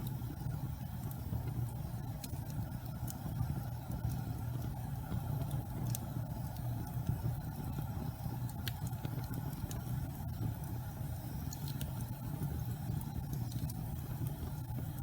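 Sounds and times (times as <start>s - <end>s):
fire crackles and pops: 0.0s - 15.0s
wood fire roaring: 0.0s - 15.0s.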